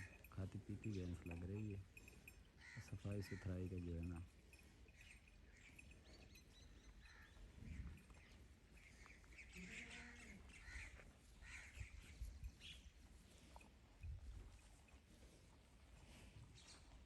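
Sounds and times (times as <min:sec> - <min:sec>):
faint birds chirping: 0:00.0 - 0:13.7, 0:16.3 - 0:17.0.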